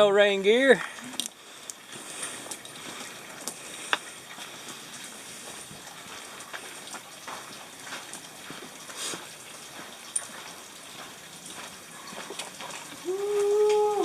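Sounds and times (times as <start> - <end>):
rain pattering and dripping: 0.0 - 14.0.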